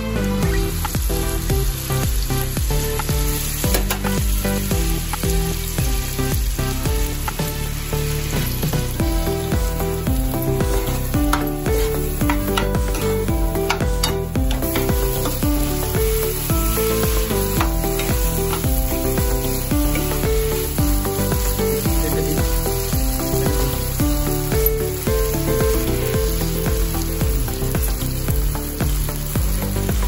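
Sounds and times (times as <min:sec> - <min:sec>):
background music with steady beat: 0:00.0 - 0:30.0
peppers sizzling in a frying pan: 0:00.0 - 0:30.0
spatula stirring in a pan: 0:02.8 - 0:30.0.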